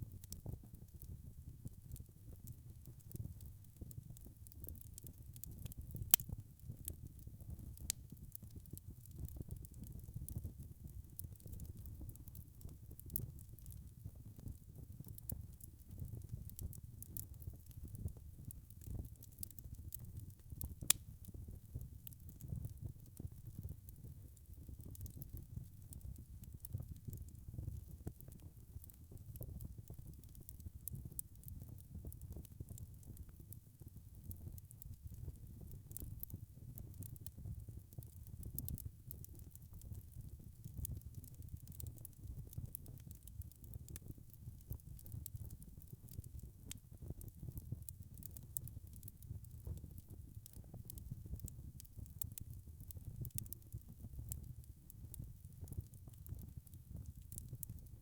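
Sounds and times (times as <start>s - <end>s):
log fire crackling: 0.1s - 58.0s.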